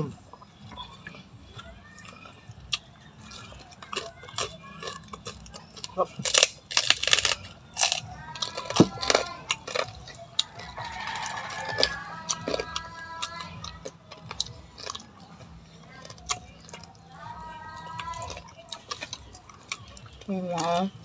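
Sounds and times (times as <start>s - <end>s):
crunchy food being chewed: 0.0s - 21.0s.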